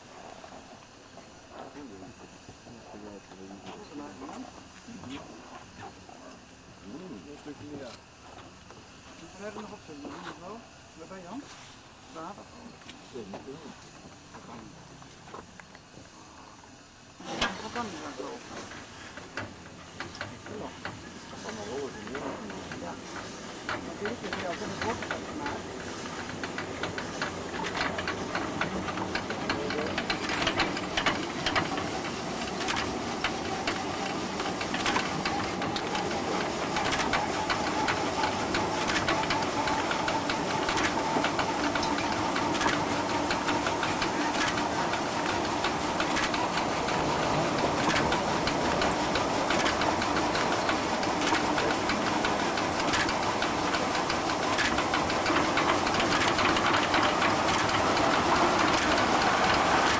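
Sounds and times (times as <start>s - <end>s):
sawmill mechanical clatter: 0.0s - 11.6s, 17.2s - 59.9s.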